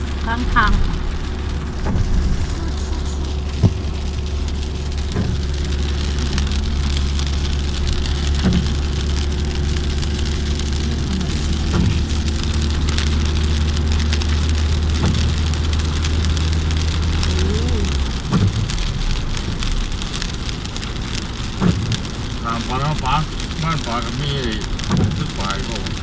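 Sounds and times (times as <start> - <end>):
rain falling on car: 0.0 - 26.0
road and engine drone: 0.0 - 26.0.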